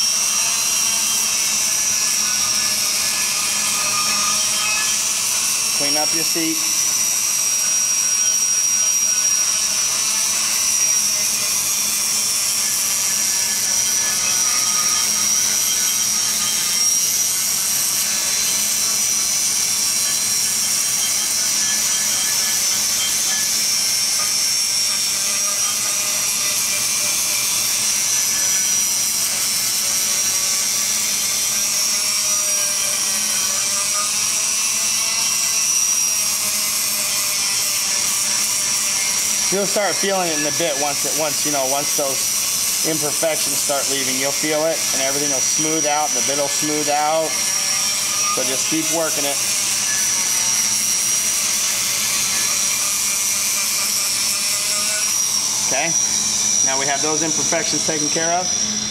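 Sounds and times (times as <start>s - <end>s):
rotary grinder whining on metal: 0.0s - 58.9s.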